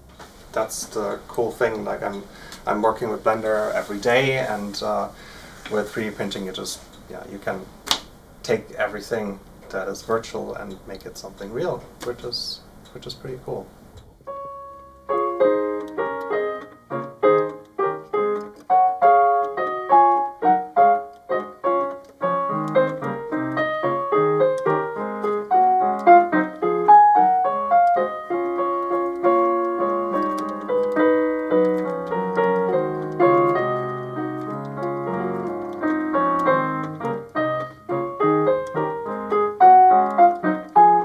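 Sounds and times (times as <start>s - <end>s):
piano music: 0.0s - 7.7s, 13.3s - 41.0s.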